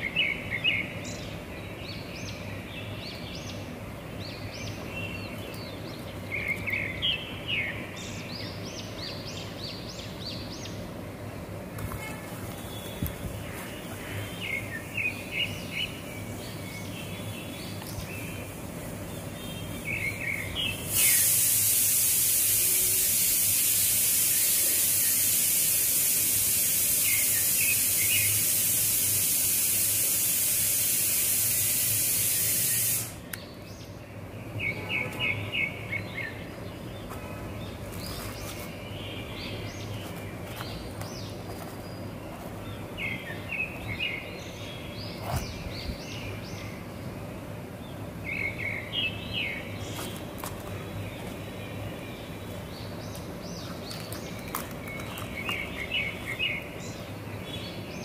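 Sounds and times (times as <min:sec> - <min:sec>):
loud steady hiss: 0:00.0 - 0:58.0
small birds chirping: 0:00.0 - 0:58.0.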